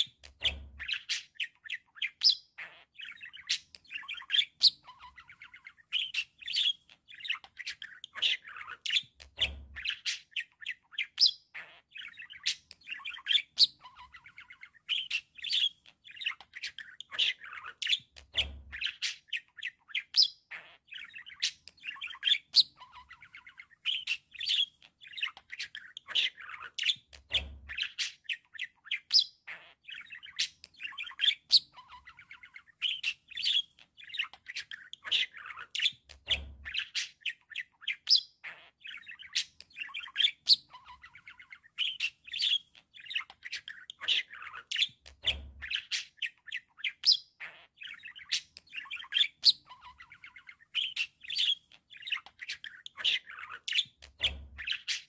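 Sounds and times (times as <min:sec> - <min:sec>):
budgerigars chirping and warbling: 0:00.0 - 0:55.0.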